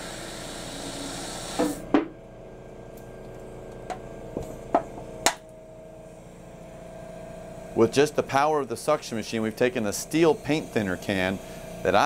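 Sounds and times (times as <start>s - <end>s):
suction machine humming: 0.0s - 12.0s.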